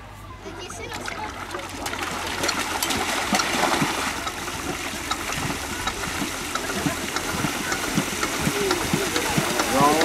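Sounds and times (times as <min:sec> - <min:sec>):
muddy water splashing: 0:00.5 - 0:10.0
tractor engine running: 0:00.5 - 0:10.0.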